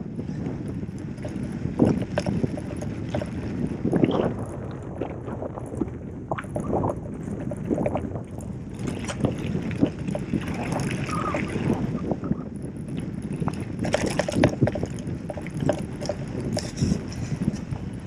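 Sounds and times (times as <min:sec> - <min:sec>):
bike knocks and rattles: 0:00.0 - 0:18.0
bike tyres crunching on gravel: 0:00.2 - 0:18.0.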